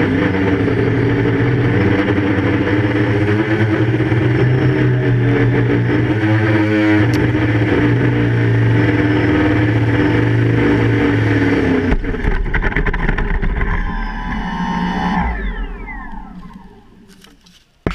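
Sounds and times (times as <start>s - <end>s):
quadcopter motors droning: 0.0s - 17.8s.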